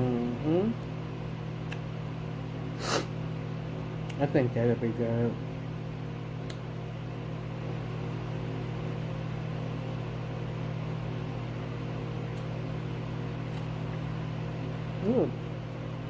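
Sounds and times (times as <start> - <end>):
steady low hum with hiss: 0.0 - 16.0.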